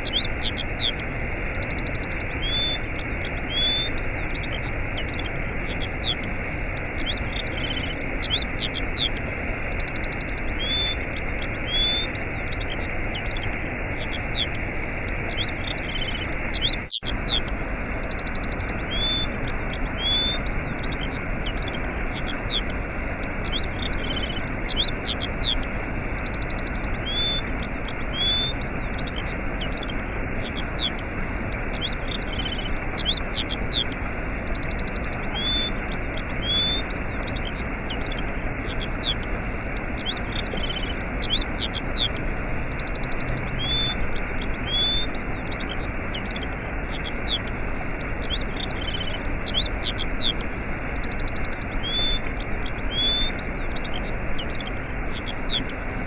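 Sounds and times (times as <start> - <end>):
small birds chirping and trilling: 0.0 - 56.0
waterfall rushing: 0.0 - 56.0.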